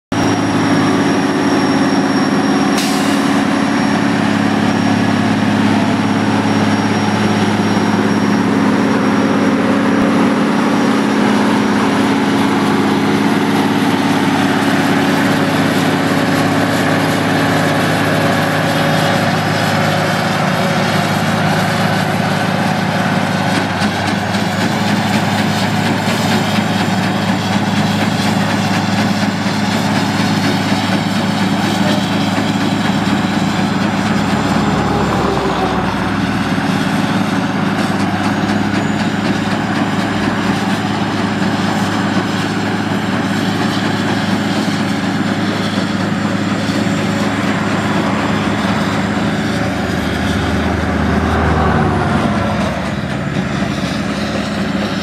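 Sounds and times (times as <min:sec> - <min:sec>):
cutter drum grinding asphalt: 0:00.1 - 0:55.0
heavy diesel engine running: 0:00.1 - 0:55.0.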